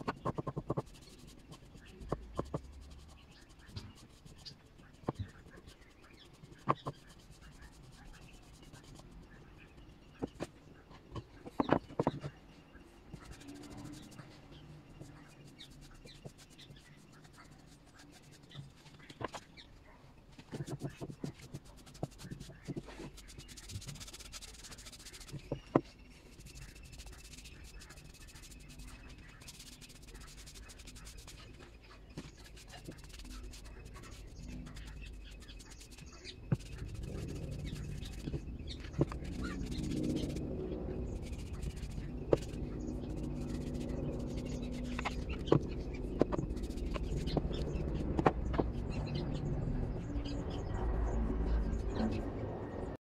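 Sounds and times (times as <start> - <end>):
paintbrush strokes on wood: 0.0 - 19.6, 20.4 - 52.3.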